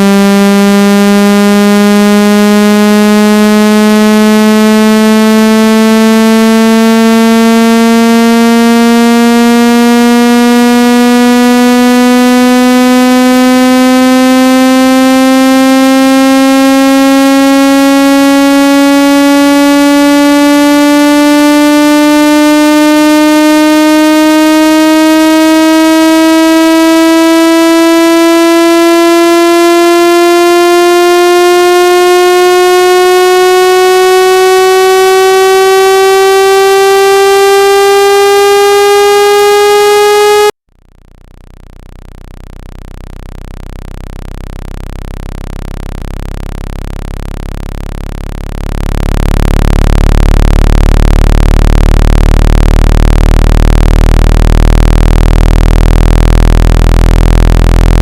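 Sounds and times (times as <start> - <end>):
electronic buzzing tone rising: 0.0 - 58.0.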